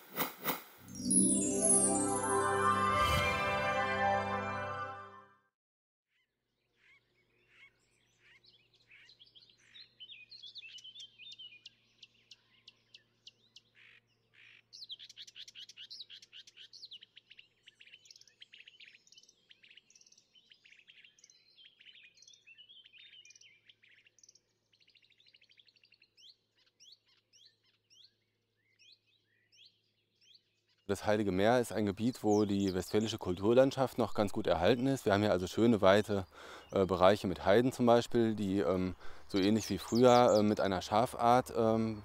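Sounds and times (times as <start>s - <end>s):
songbirds singing: 6.6s - 42.0s.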